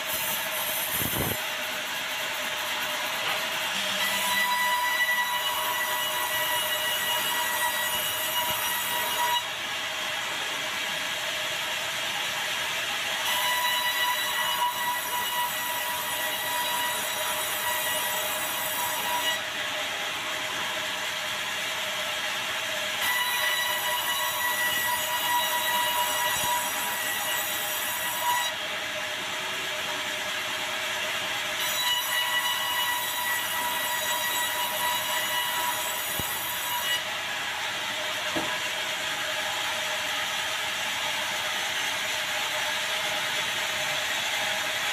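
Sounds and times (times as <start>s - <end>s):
band saw cutting log: 0.0s - 10.0s, 13.0s - 44.9s
high-pitched saw whine: 0.0s - 10.8s, 13.1s - 44.3s.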